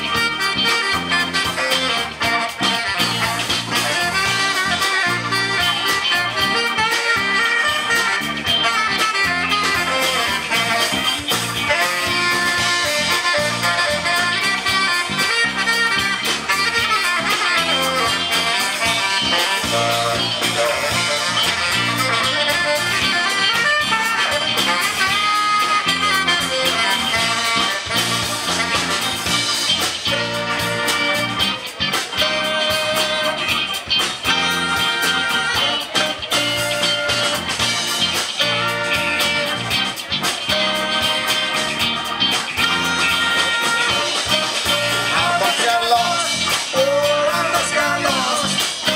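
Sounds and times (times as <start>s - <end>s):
live blues band instrumental: 0.0s - 48.9s.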